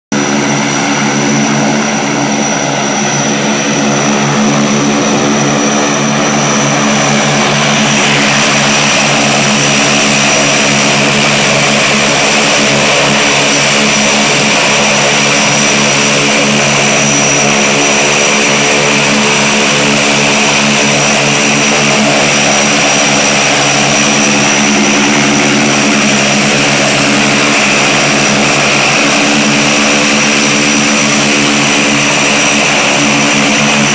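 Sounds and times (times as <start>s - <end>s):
propeller plane engine droning: 0.1s - 33.9s.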